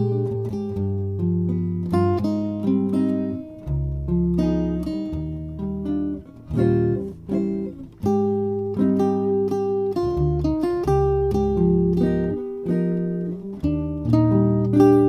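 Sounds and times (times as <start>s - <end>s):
acoustic guitar music: 0.0s - 15.0s
bass line: 0.0s - 15.0s.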